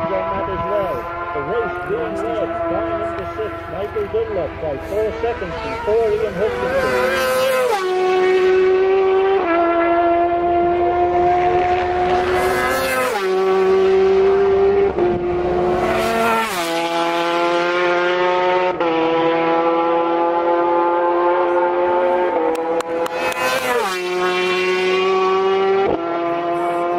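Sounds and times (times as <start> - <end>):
racing motorcycles passing: 0.0 - 26.9.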